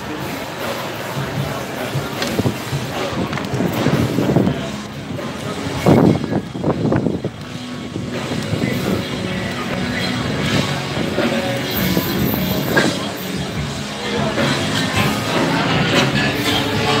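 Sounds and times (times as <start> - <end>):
music from bars: 0.0 - 17.0
street hubbub: 0.0 - 17.0.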